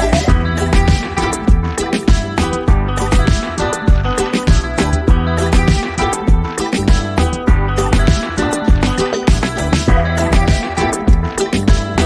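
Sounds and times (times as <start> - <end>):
bass line: 0.0 - 12.0.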